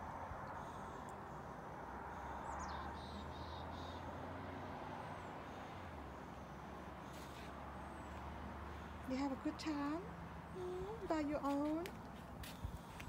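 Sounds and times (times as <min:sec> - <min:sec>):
low outdoor background hum: 0:00.0 - 0:13.0.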